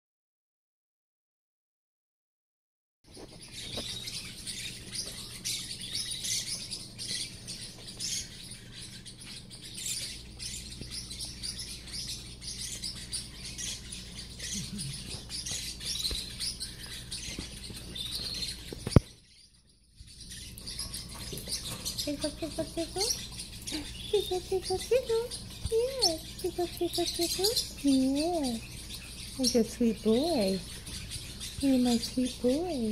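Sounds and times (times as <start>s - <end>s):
parrotlets chirping: 3.1s - 32.9s.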